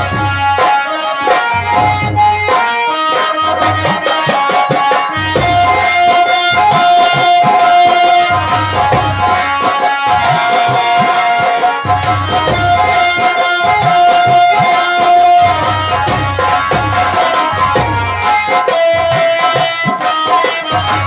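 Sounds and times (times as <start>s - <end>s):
fast hand drum strokes: 0.0s - 21.0s
folk melody: 0.0s - 21.0s.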